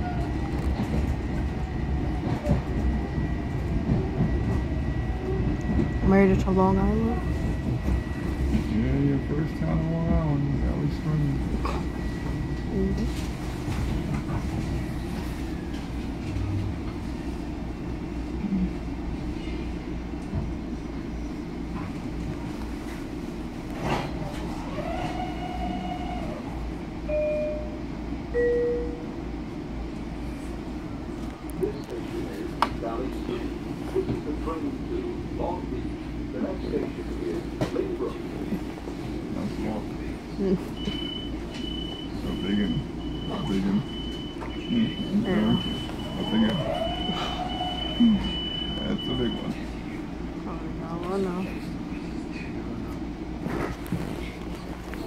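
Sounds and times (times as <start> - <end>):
train car rumble: 0.0 - 55.0.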